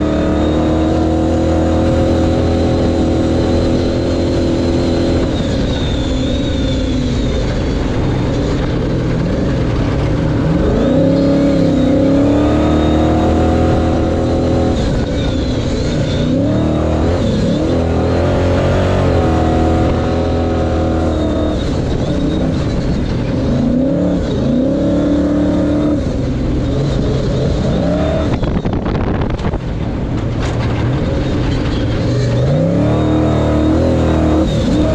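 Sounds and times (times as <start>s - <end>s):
truck engine revving hard: 0.0s - 34.9s.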